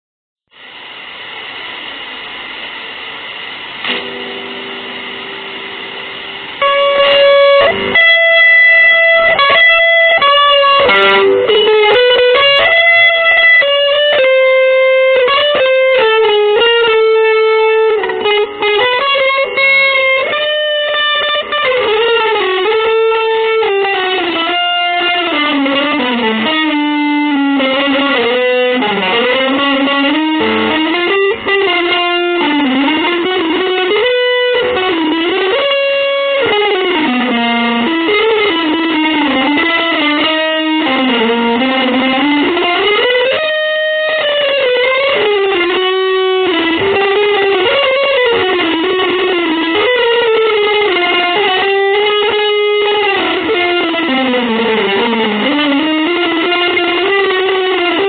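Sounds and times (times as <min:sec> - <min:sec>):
electric guitar through effects: 0:00.5 - 0:58.0.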